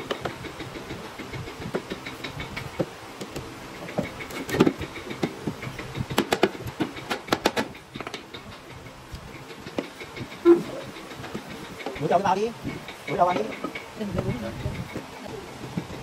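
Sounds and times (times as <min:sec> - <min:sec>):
knocking and clattering: 0:00.0 - 0:16.0
steady low hum: 0:00.0 - 0:16.0.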